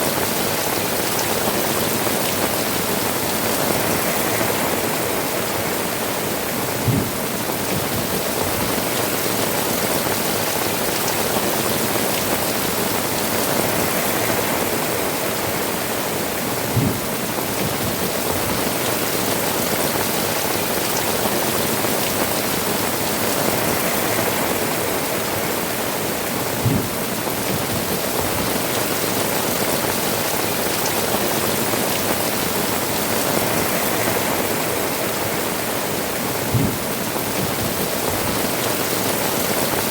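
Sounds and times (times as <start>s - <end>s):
heavy rain on tiled roofs: 0.0s - 39.9s.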